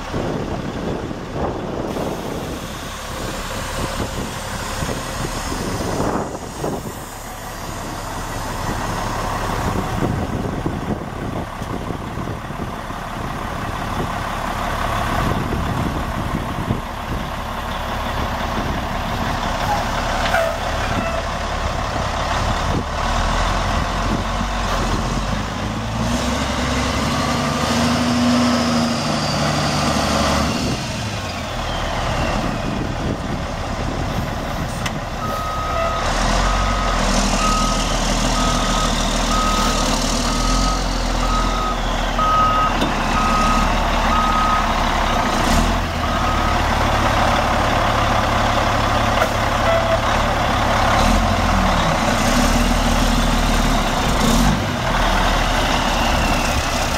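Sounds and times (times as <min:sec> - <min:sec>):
diesel truck engine idling: 0:00.0 - 0:56.9.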